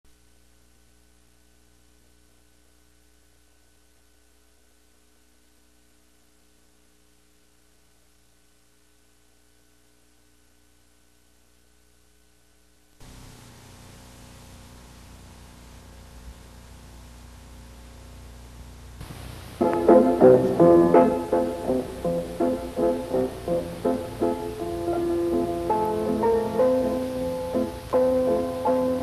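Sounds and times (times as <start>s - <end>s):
electrical mains hum: 0.1s - 29.0s
tape hiss: 0.1s - 29.0s.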